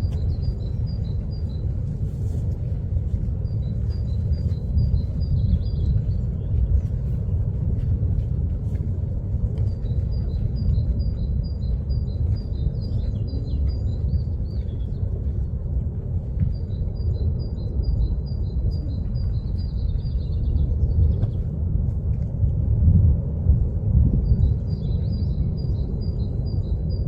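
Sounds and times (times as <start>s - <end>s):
lava fountain low rumble: 0.0s - 27.0s.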